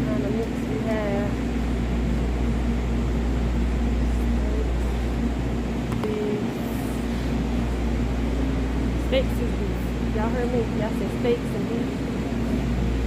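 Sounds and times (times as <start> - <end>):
faint hum: 0.0 - 13.0
low rumble and hiss: 0.0 - 13.0.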